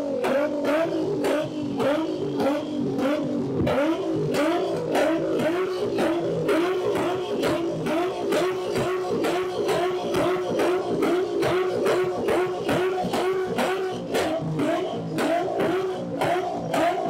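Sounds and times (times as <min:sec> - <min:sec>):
car engine revving: 0:00.0 - 0:17.0
exhaust pops: 0:00.0 - 0:17.0.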